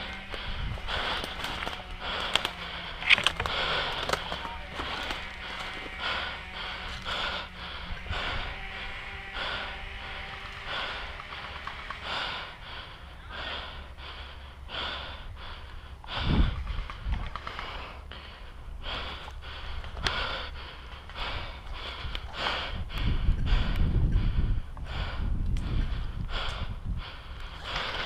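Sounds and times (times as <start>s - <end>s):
person breathing heavily: 0.0s - 28.0s.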